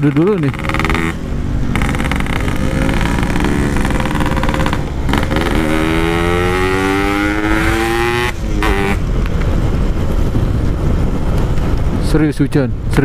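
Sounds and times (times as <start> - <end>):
motorcycle engine accelerating: 0.0 - 11.9.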